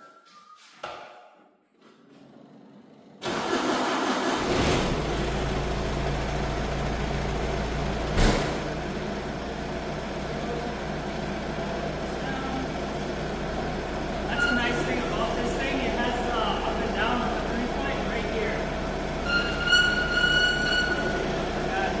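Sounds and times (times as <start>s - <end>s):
tractor engine starting and running: 2.1s - 22.0s.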